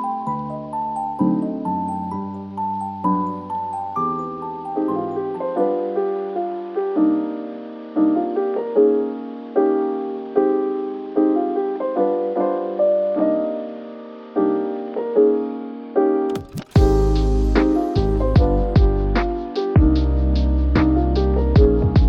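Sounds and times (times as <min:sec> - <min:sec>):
soft electric piano chords: 0:00.0 - 0:22.0.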